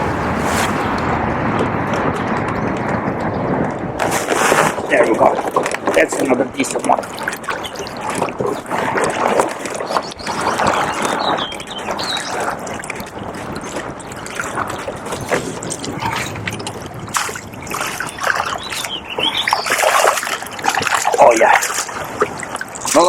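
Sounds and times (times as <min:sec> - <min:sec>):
river water splashing: 0:00.0 - 0:02.9, 0:03.9 - 0:23.0.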